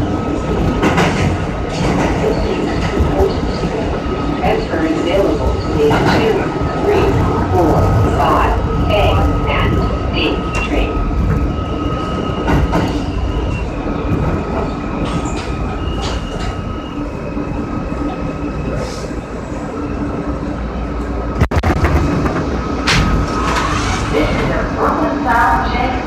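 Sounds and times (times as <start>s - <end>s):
subway wheels rumbling on rail: 0.0s - 26.0s.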